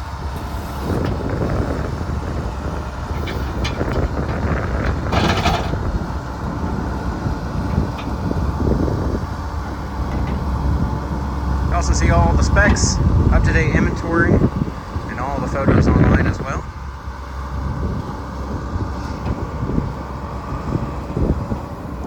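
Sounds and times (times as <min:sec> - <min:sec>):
excavator diesel engine running: 0:00.0 - 0:22.0
wind on microphone: 0:00.0 - 0:22.0.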